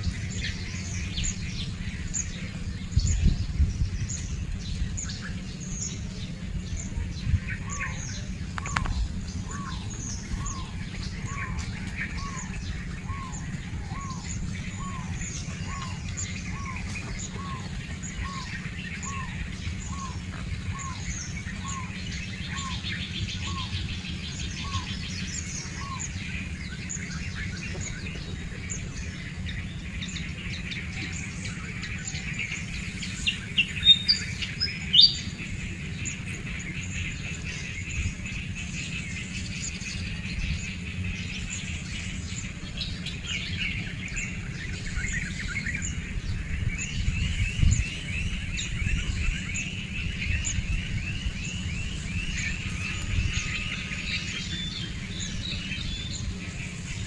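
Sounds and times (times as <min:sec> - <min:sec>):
bird trill: 0:00.0 - 0:57.0
small birds chirping: 0:00.0 - 0:57.0
steady low rumble: 0:00.0 - 0:57.0.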